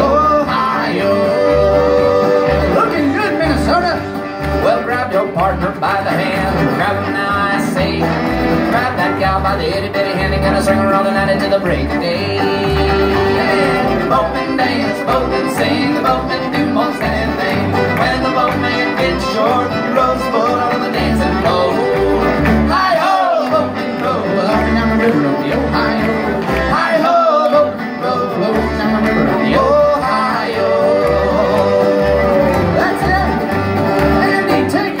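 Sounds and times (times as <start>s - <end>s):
acoustic guitar: 0.0s - 35.0s
banjo: 0.0s - 35.0s
fiddle: 0.0s - 35.0s.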